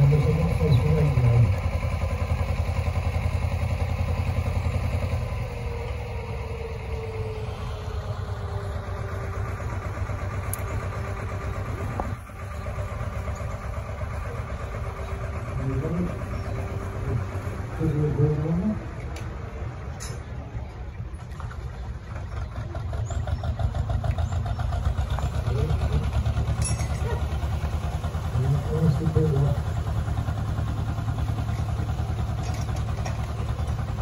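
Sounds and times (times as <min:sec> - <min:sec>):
boat diesel engine running: 0:00.0 - 0:34.0.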